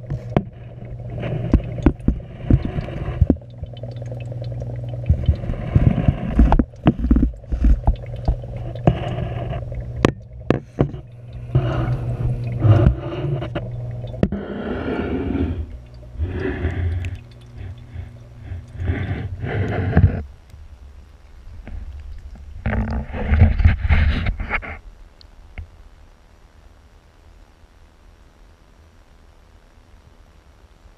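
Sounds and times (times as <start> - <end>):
water gurgling and sloshing: 0.0 - 25.0
steady low hum: 0.0 - 30.9.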